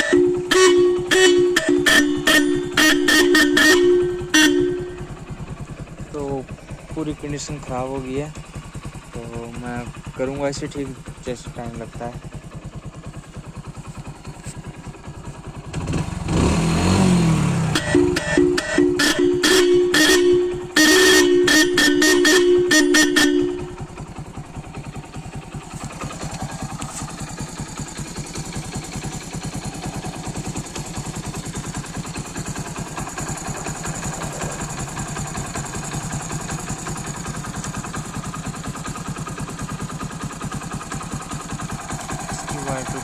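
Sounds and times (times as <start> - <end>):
motorcycle horn beeps: 0.0 - 9.2, 9.9 - 10.2, 11.0 - 43.0
motorcycle engine idling: 0.0 - 43.0.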